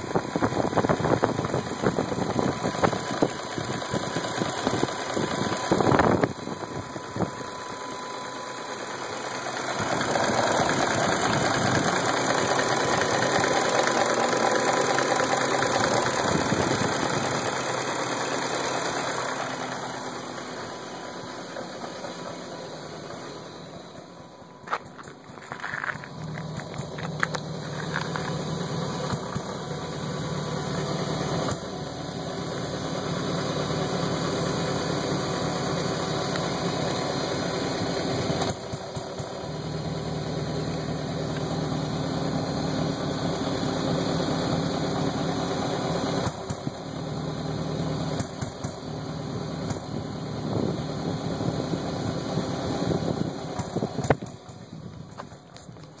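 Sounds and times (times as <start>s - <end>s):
car engine rough idling: 0.0s - 56.0s.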